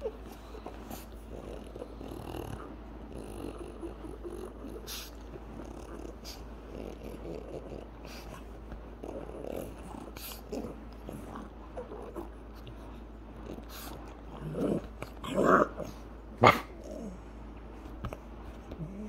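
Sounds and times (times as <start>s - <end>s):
dog growling playfully: 0.0s - 17.5s, 18.6s - 19.0s.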